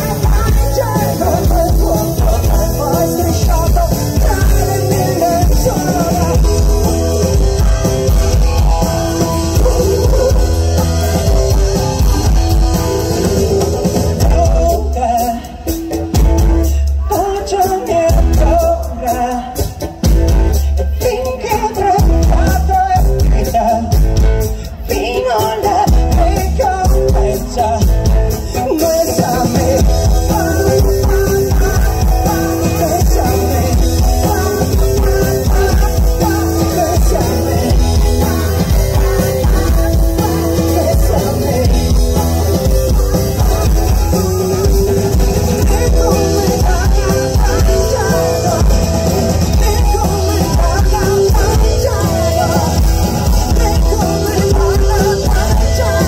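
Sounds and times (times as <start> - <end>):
acoustic guitar: 0.0 - 56.0
drum kit with cymbals: 0.0 - 56.0
woman singing lead: 0.0 - 56.0.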